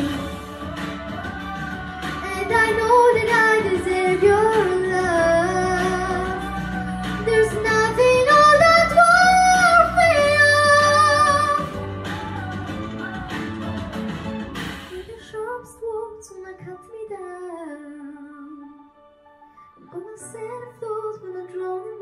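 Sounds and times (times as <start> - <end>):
girl singing pop ballad: 0.0 - 14.1, 14.9 - 18.9, 19.8 - 22.0
backing track music: 0.0 - 22.0.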